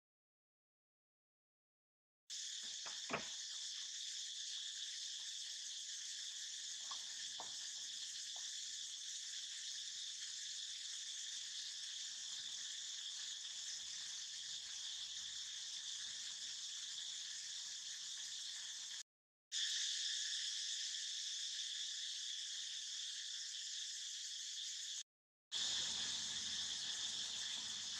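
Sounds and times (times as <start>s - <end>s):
insect chorus chirring: 2.3s - 27.9s.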